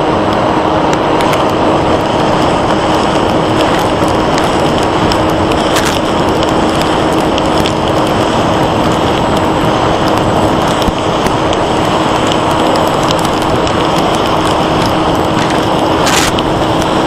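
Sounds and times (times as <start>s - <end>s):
electric motor and propeller hum: 0.0s - 17.0s
loud wind rush: 0.0s - 17.0s
rain ticking on airframe: 0.0s - 17.0s.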